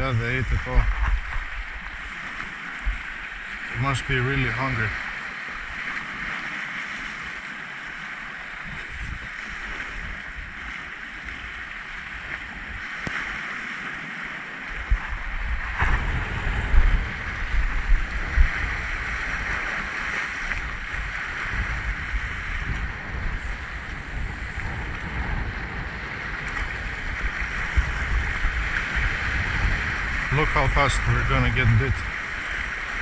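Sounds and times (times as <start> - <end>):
wind buffeting microphone: 0.0 - 7.4, 8.6 - 13.5, 14.7 - 33.0
waves washing against rocks: 0.0 - 33.0.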